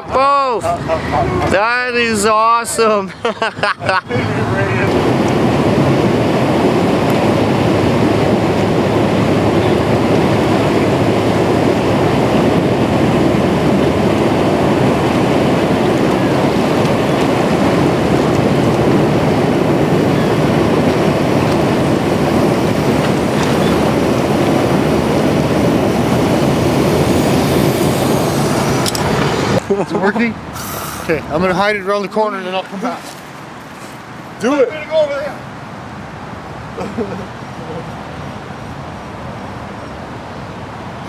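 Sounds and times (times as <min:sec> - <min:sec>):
vehicle rumbling while moving: 0:00.0 - 0:41.0.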